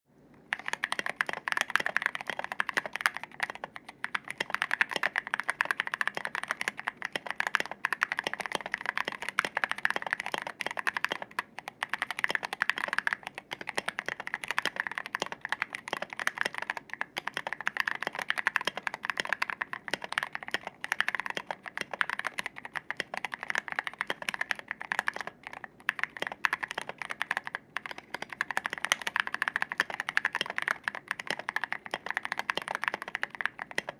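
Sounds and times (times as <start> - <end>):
fast mechanical keyboard typing: 0.5 - 33.9.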